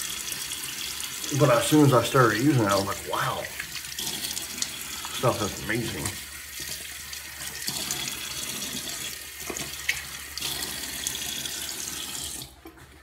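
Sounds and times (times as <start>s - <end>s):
faucet running into a sink: 0.0s - 12.8s.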